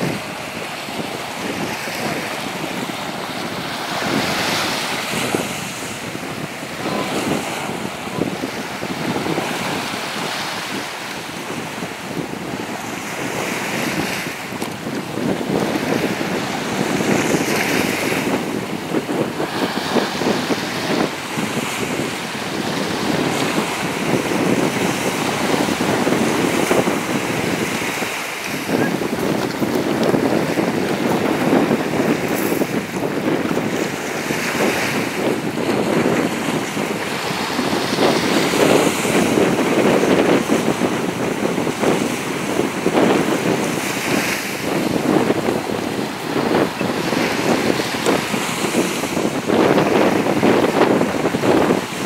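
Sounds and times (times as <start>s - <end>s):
small waves on sandy shore: 0.0s - 52.0s
wind buffeting microphone: 0.0s - 52.0s.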